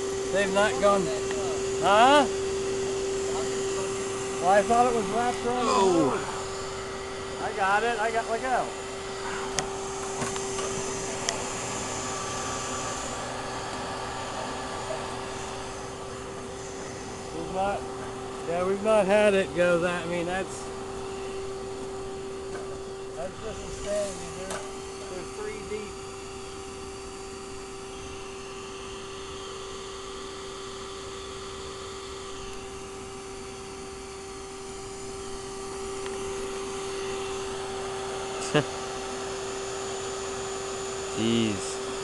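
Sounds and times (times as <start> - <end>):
vacuum motor humming: 0.0 - 42.0.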